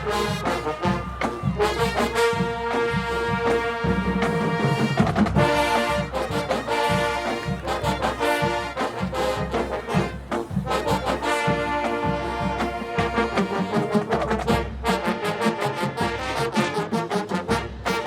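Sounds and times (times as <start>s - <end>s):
brass chords: 0.0s - 18.0s
steady drum beat: 0.0s - 18.0s.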